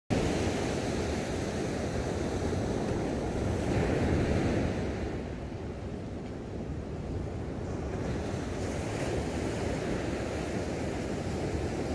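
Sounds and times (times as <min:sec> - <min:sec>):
ocean surf washing up beach: 0:00.1 - 0:11.9.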